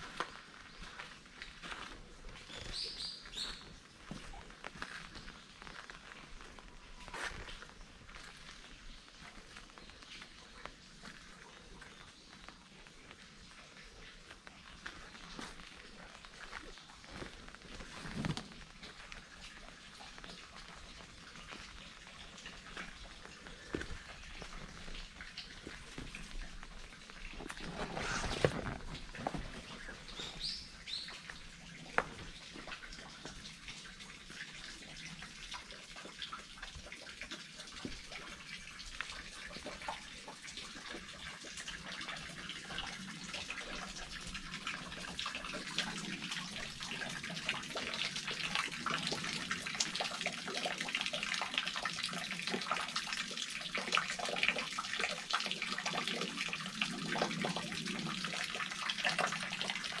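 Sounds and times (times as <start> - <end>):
water trickling into stone basin: 0.0 - 60.0.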